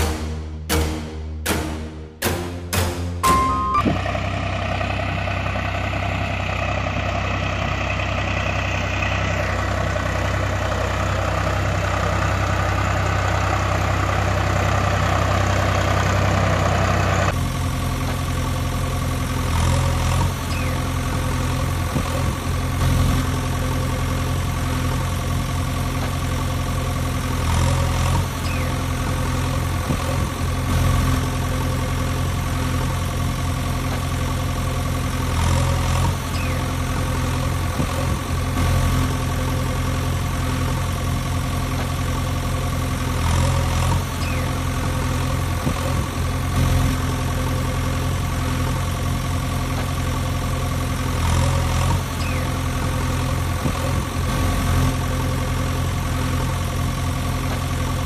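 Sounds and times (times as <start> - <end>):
engine idling: 0.0 - 58.0
deeper engine idle: 2.5 - 58.0.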